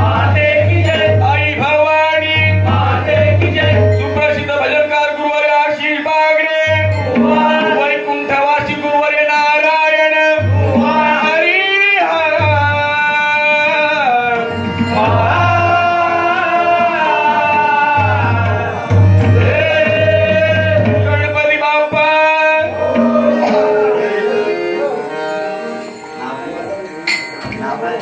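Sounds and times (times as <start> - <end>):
harmonium: 0.0 - 28.0
man singing: 0.0 - 28.0
tabla: 0.0 - 28.0.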